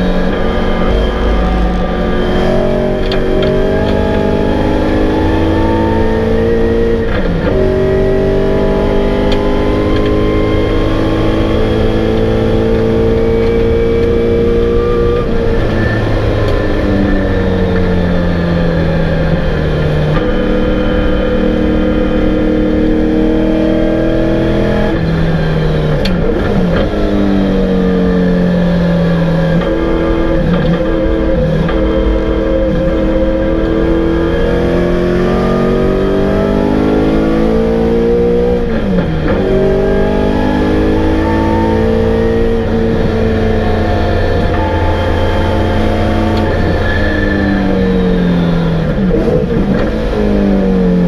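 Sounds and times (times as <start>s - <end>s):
gear changes: 0.0s - 51.0s
racing car engine: 0.0s - 51.0s.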